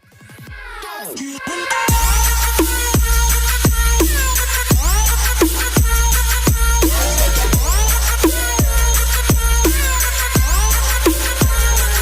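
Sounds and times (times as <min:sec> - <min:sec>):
electronic dance music: 0:00.1 - 0:12.0.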